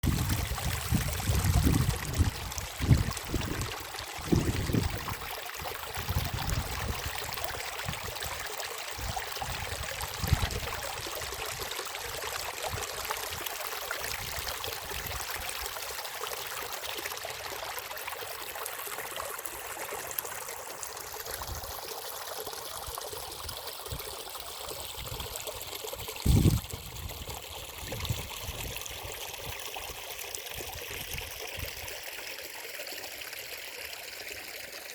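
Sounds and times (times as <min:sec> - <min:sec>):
stream water trickling: 0:00.0 - 0:34.9.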